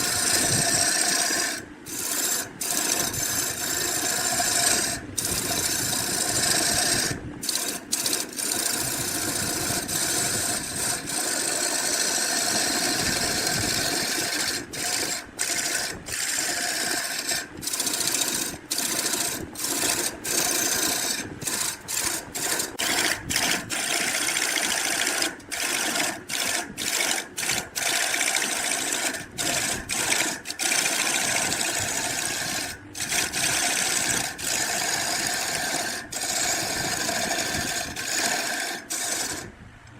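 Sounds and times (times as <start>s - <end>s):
tool rasping wood: 0.0s - 39.5s.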